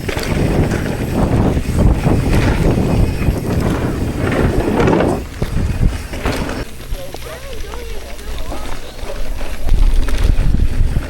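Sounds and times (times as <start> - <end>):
wind buffeting microphone: 0.0 - 6.7, 8.2 - 11.0
bike tyres and rattle: 0.0 - 11.0.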